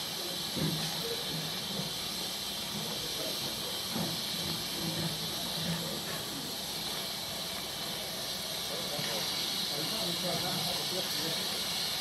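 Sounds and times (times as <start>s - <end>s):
steam hissing from locomotive: 0.0s - 12.0s.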